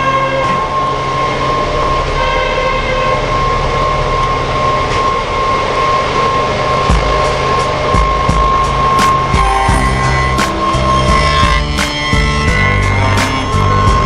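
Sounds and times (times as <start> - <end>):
cutting heads working: 0.0 - 14.0
high whine: 0.0 - 14.0
milling machine motor hum: 0.1 - 14.0.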